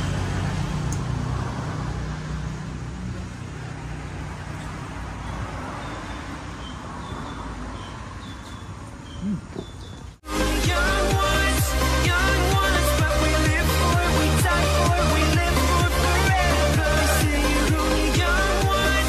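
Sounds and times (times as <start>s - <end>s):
passing traffic: 0.0s - 19.0s
vehicle engine hum: 0.0s - 19.0s.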